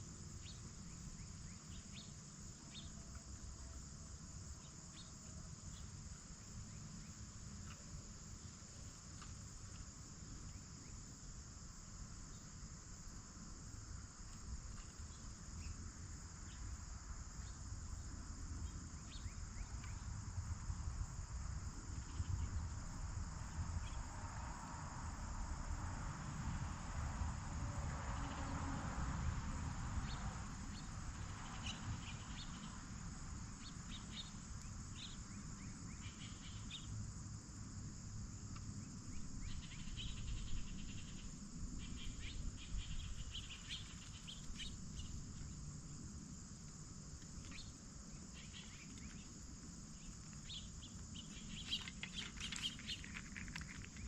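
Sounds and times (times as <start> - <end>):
crickets chorus: 0.0 - 54.0.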